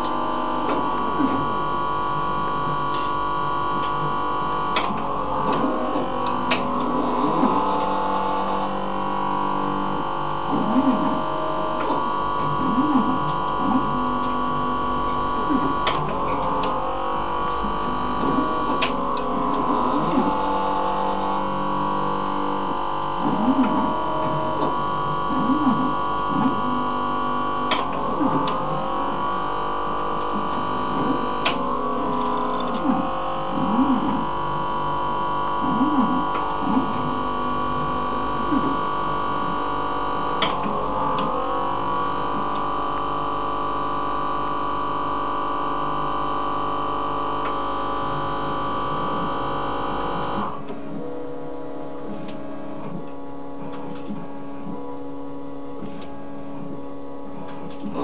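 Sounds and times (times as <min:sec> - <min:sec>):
steady machine hum: 0:00.0 - 0:58.0
stepper motors whining: 0:00.0 - 0:58.0.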